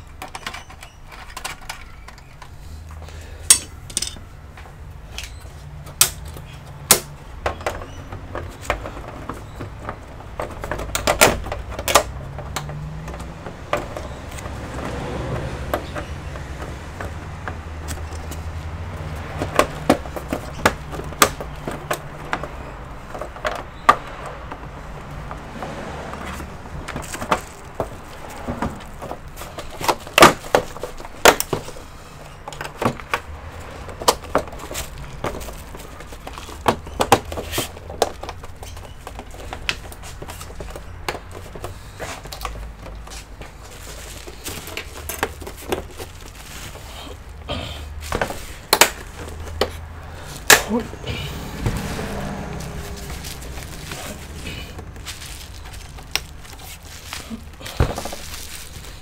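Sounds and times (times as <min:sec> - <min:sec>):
plastic parts clicking and knocking: 0:00.0 - 0:25.6, 0:26.2 - 0:59.0.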